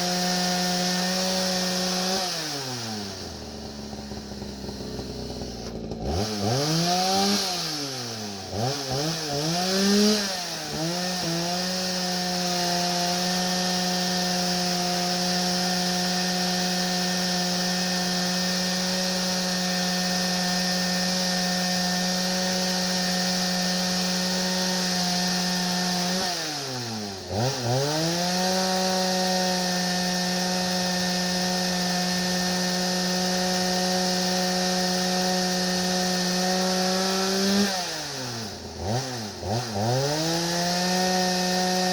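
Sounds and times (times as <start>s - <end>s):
chainsaw ripping a log: 0.0s - 41.9s.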